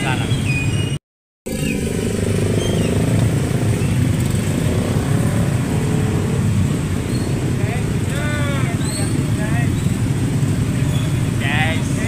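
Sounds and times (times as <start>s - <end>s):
rushing wind and road noise: 0.0s - 12.0s.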